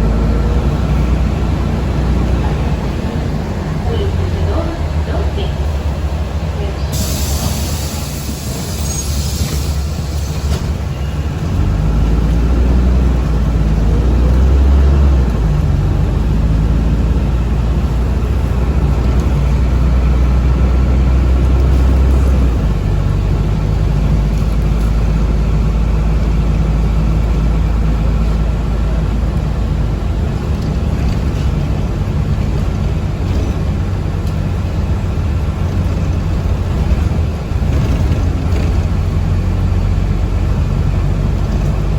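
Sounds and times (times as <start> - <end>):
bus cabin rumble: 0.0 - 41.9.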